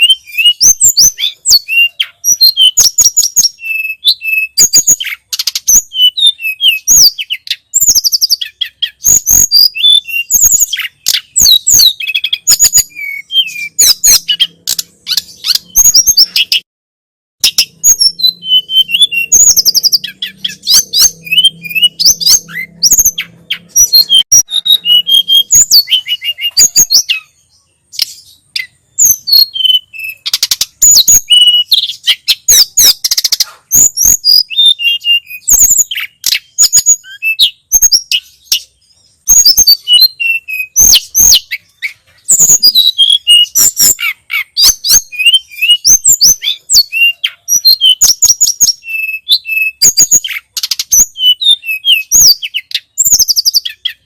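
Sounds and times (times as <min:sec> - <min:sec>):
songbird chirping and whistling: 0:00.0 - 0:16.7, 0:17.4 - 0:54.0.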